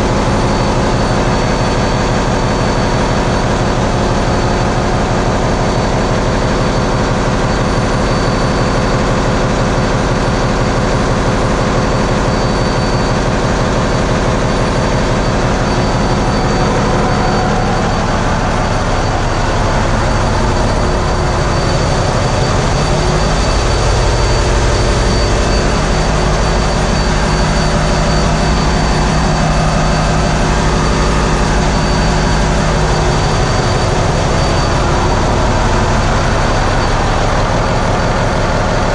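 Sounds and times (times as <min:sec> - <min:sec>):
diesel engines droning: 0:00.0 - 0:38.9
high-pitched whine: 0:00.0 - 0:38.9.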